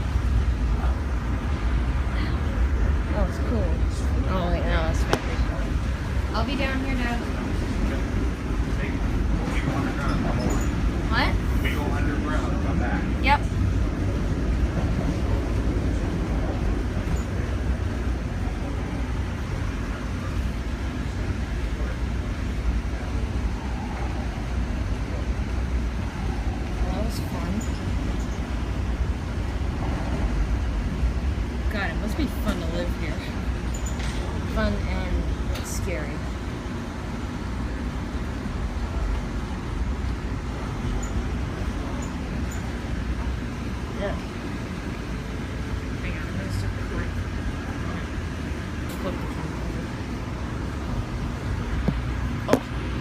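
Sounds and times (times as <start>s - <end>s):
passenger train rumbling: 0.0s - 53.0s.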